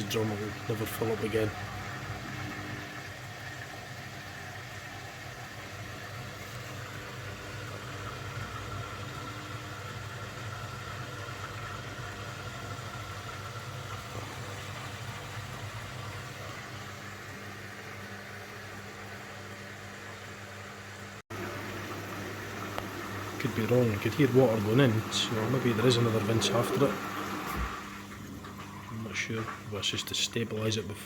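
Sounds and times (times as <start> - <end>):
washing machine drain pump: 0.0 - 31.0.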